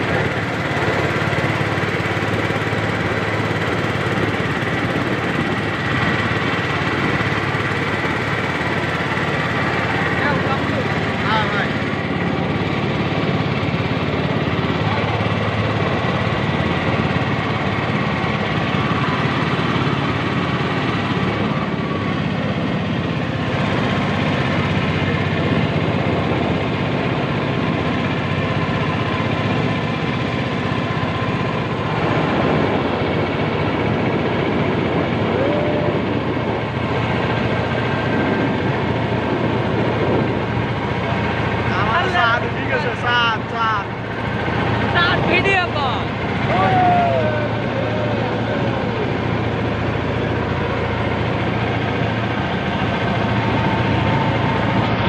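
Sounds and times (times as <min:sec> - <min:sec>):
boat engine drone: 0:00.0 - 0:55.0.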